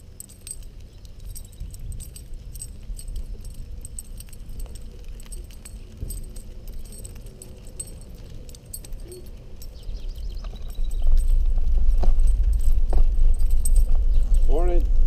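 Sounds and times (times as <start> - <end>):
metal jingling and rattling: 0.0 - 15.0
wind: 0.0 - 15.0.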